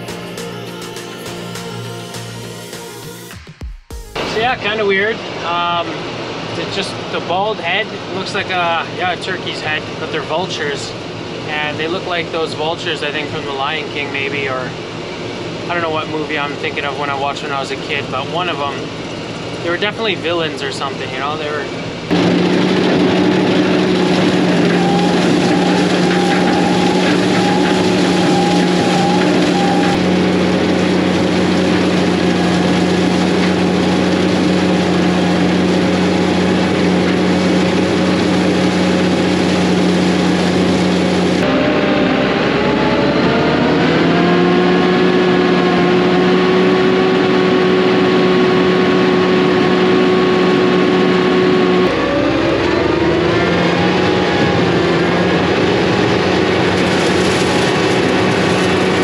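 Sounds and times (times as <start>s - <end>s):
combine harvester engine droning: 4.2s - 59.0s.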